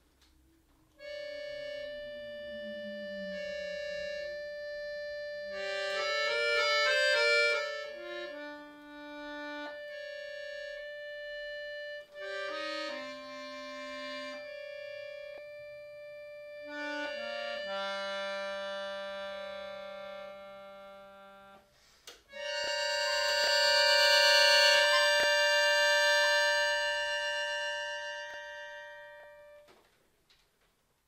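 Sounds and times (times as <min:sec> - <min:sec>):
button accordion playing: 0:01.0 - 0:29.7.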